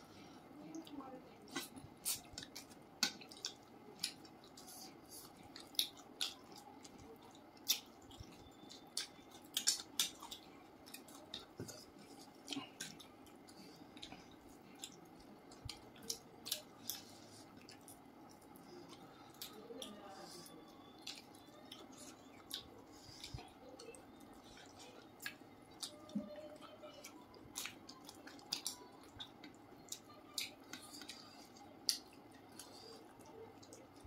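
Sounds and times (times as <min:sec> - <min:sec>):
wet chewing smacks: 0:01.5 - 0:20.4, 0:21.0 - 0:34.0.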